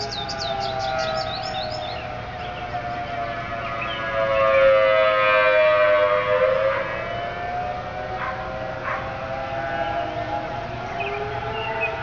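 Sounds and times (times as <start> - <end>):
tornado warning sirens: 0.0 - 12.0.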